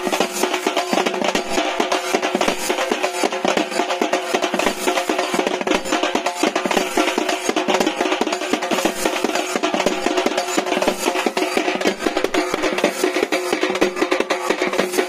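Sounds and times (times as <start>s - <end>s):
fast dense drumming: 0.0s - 15.0s.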